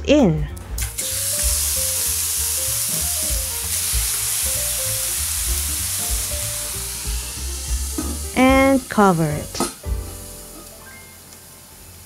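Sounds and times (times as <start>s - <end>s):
steaks sizzling in a skillet: 0.8s - 12.0s.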